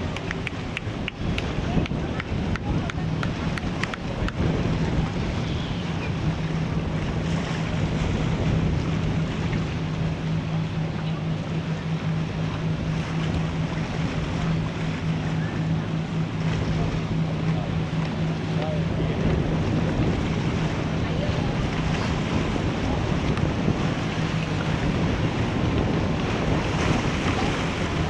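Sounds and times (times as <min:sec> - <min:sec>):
boat engine droning: 0:00.0 - 0:28.0
waves splashing: 0:00.0 - 0:28.0
wind buffeting microphone: 0:00.0 - 0:28.0.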